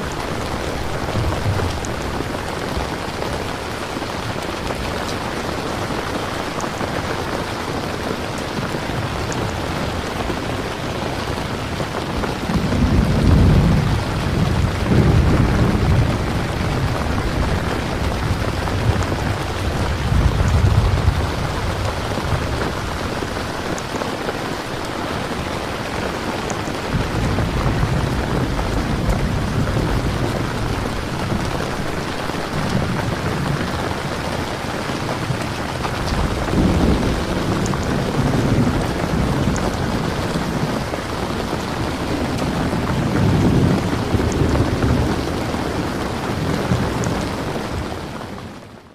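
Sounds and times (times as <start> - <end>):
thunder rumbling: 0.0 - 48.4
rain falling on a surface: 0.0 - 48.9.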